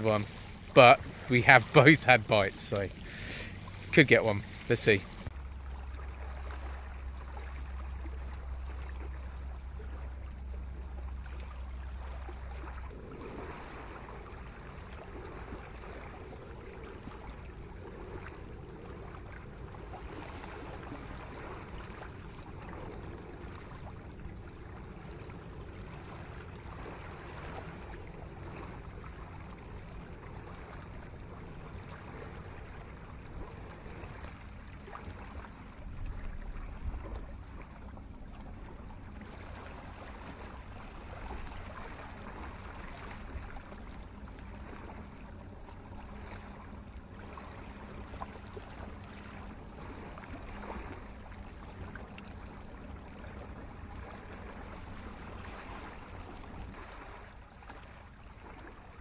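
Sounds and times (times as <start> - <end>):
small waves washing on shore: 0.0 - 59.0
wind rumbling on microphone: 0.0 - 59.0.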